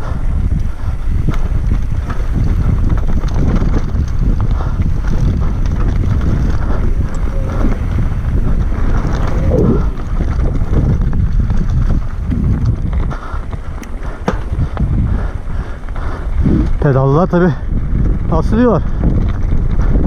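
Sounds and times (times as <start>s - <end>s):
bike rattling over gravel: 0.0s - 20.0s
wind buffeting microphone: 0.0s - 20.0s.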